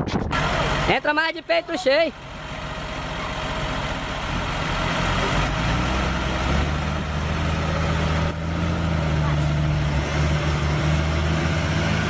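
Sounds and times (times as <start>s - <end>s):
heavy truck engine under load: 0.0s - 12.0s.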